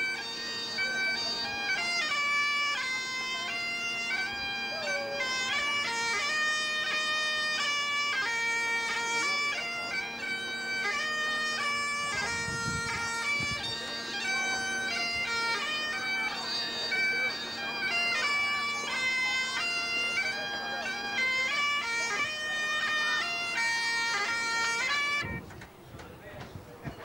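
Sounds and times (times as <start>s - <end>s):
bagpipe playing a tune: 0.0s - 25.5s.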